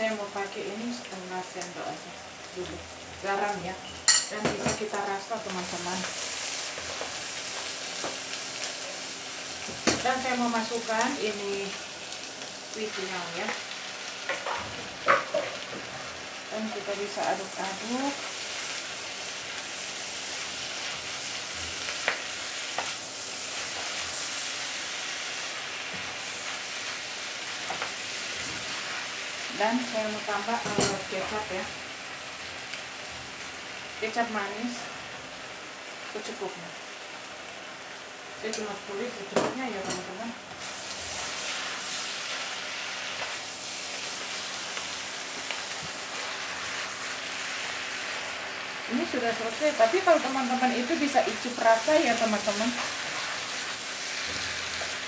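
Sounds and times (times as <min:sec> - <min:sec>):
noodles sizzling in a wok: 0:00.0 - 0:55.0.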